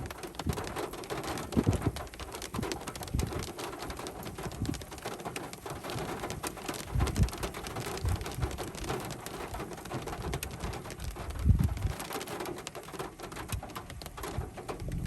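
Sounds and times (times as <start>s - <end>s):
rain patter: 0.0s - 15.0s.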